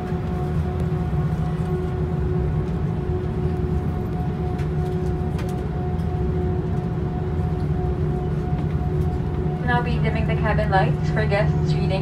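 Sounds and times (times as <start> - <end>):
faint steady hum: 0.0 - 12.0
jet engines rumbling: 0.0 - 12.0.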